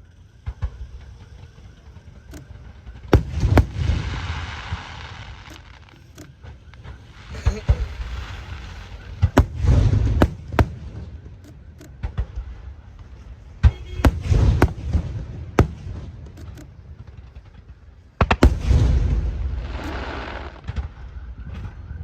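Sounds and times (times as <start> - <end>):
fireworks bursting: 0.0 - 22.0
rumbling booms: 0.4 - 22.0.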